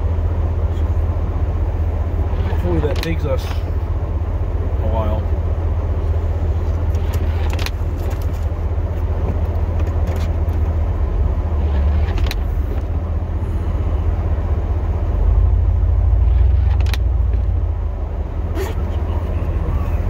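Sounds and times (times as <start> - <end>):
truck engine low rumble: 0.0 - 20.0.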